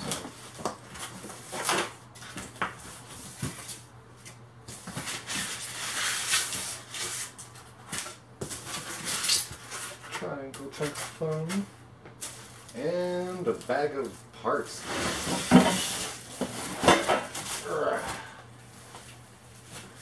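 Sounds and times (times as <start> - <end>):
styrofoam and cardboard rustling: 0.0 - 3.8, 4.7 - 20.0.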